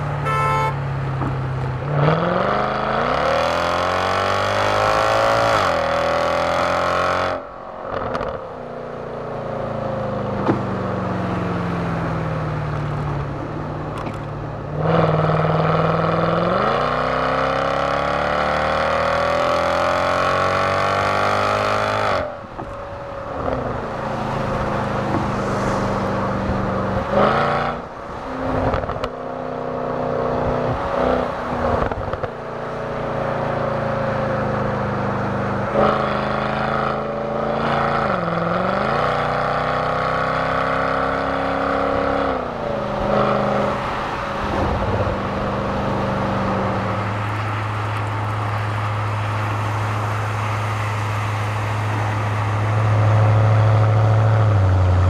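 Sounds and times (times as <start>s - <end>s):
car engine accelerating: 0.9s - 55.0s.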